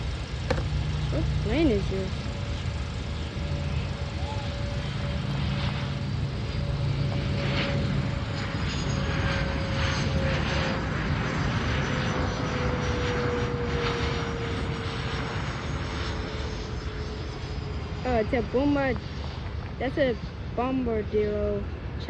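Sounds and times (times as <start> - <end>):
jet passing by: 0.0 - 22.0.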